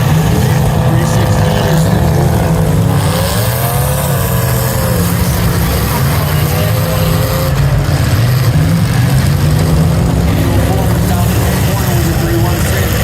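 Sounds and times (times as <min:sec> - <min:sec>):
car engines rumbling: 0:00.0 - 0:13.0
engine revving: 0:00.0 - 0:13.0.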